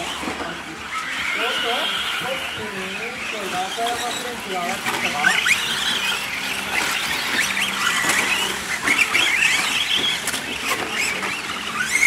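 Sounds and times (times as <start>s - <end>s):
rc truck motors whining: 0.0s - 12.0s
tyres on dirt: 0.0s - 12.0s.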